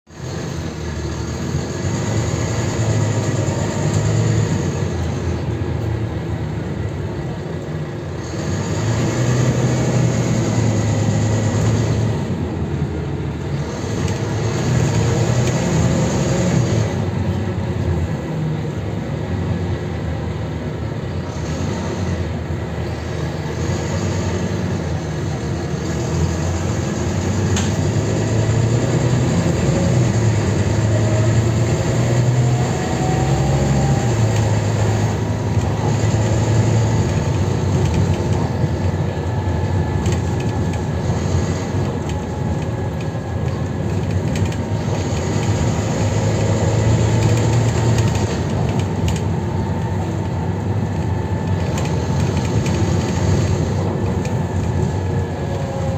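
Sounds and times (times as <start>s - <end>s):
road noise: 0.0s - 55.9s
bus diesel engine humming: 0.1s - 55.9s.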